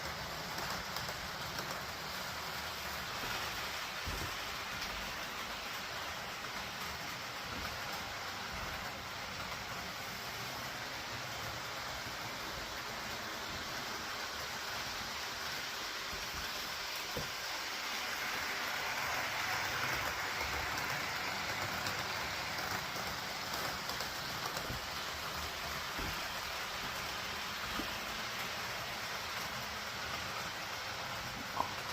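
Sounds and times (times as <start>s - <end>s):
train running on track: 0.0s - 31.9s.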